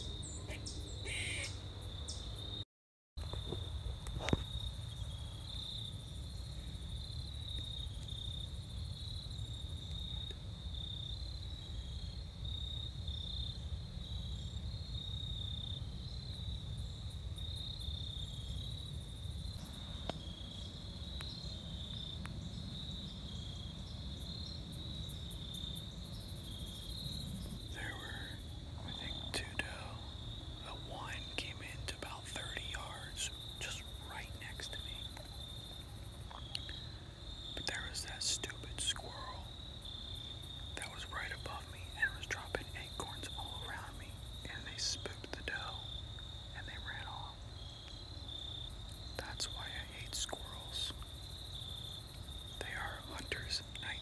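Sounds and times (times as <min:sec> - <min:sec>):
crickets chirping: 0:00.0 - 0:02.6, 0:03.2 - 0:54.0.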